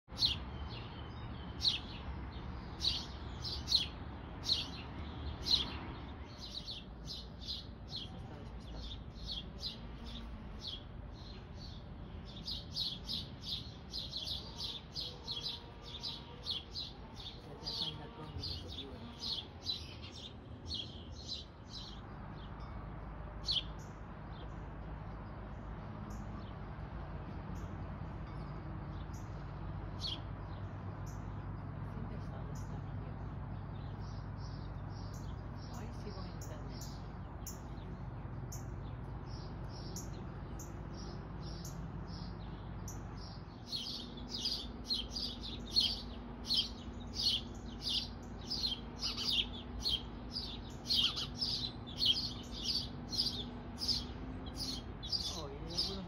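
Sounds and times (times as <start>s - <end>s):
small birds chirping: 0.1s - 22.7s, 23.3s - 56.0s.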